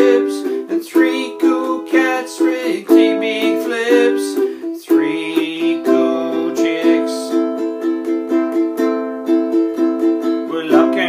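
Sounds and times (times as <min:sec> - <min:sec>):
ukulele strumming chords: 0:00.0 - 0:11.0.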